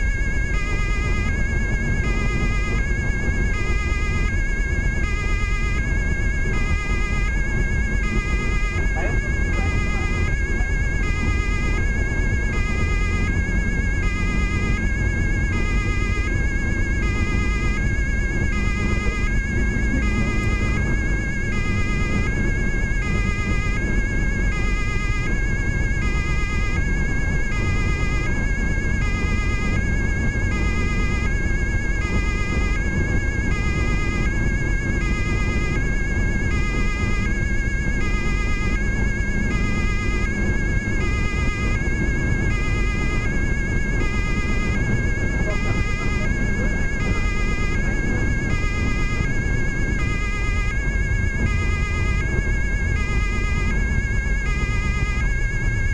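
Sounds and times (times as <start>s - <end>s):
engine and tyre noise: 0.0s - 55.9s
two-tone police siren: 0.0s - 55.9s.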